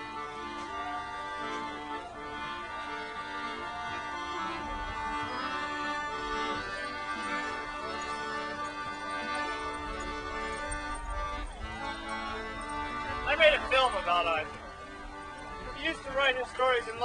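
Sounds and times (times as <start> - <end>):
instrumental music with held chords: 0.0 - 17.0.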